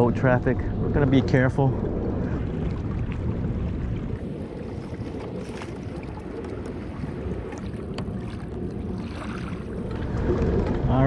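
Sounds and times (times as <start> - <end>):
water lapping along kayak hull: 0.0 - 11.0
wind buffeting microphone: 0.0 - 11.0.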